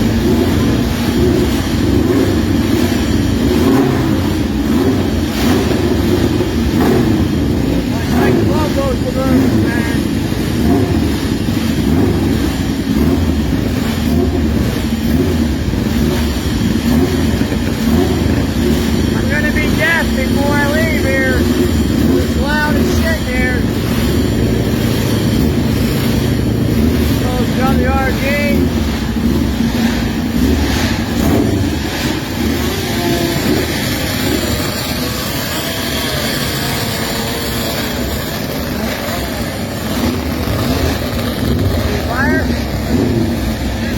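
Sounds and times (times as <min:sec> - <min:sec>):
motorcycle engines droning: 0:00.0 - 0:43.9.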